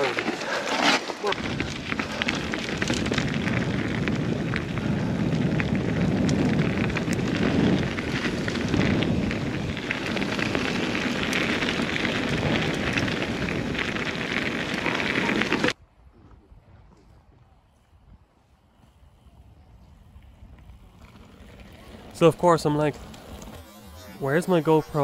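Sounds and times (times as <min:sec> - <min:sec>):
wind and tyre rush: 0:00.0 - 0:25.0.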